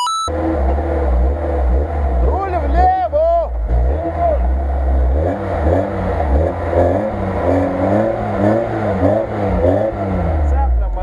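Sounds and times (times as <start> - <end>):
engine revving: 0.3 - 11.0.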